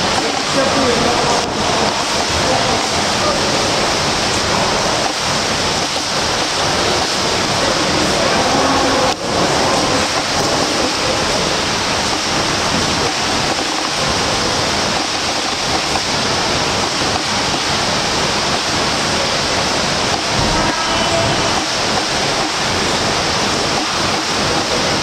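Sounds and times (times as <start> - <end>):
water splashing in a pool: 0.0 - 25.0.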